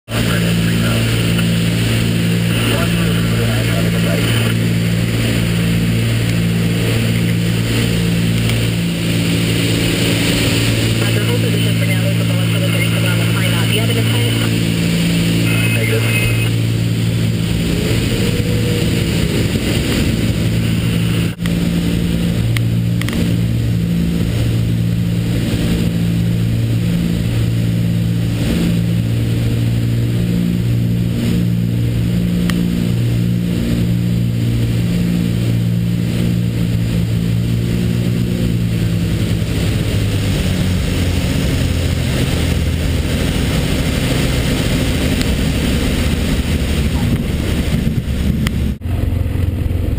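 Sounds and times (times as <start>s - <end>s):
propeller plane engines droning: 0.0s - 49.9s.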